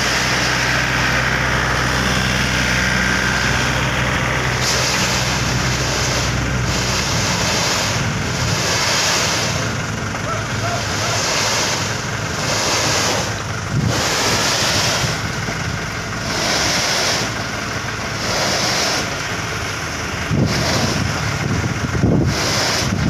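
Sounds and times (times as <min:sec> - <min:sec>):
diesel truck engine running: 0:00.0 - 0:23.0
gravel load rushing hiss: 0:03.1 - 0:23.0.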